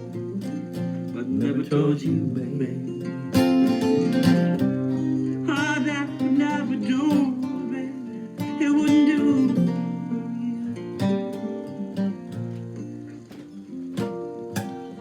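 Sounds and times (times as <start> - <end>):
acoustic guitar strummed chords: 0.0 - 15.0
guitar lead melody: 0.0 - 15.0.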